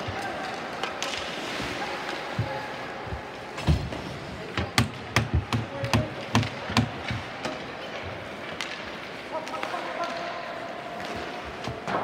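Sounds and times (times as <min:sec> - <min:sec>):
hockey sticks and puck clacking: 0:00.0 - 0:02.8, 0:04.5 - 0:12.0.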